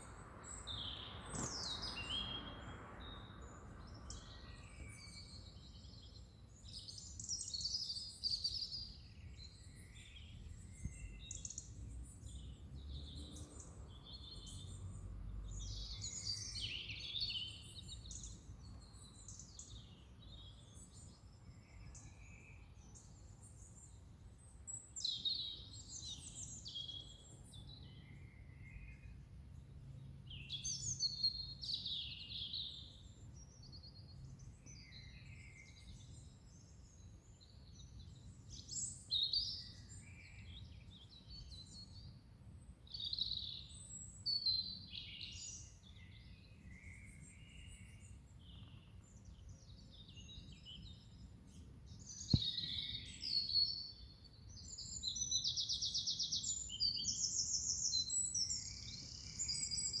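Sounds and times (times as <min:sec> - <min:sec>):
songbirds singing and calling: 0:00.0 - 1:00.0.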